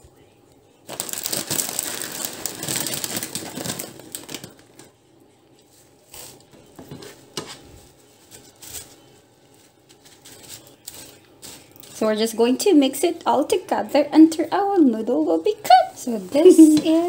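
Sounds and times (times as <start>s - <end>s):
dry noodles crackling in a pan: 0.8s - 17.0s.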